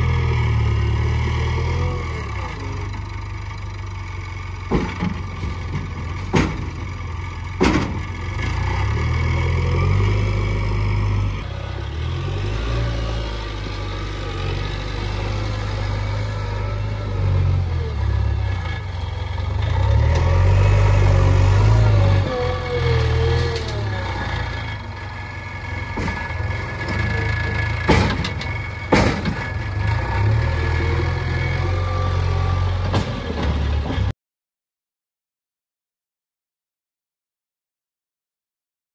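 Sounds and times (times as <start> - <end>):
diesel engine working under load: 0.0 - 34.1.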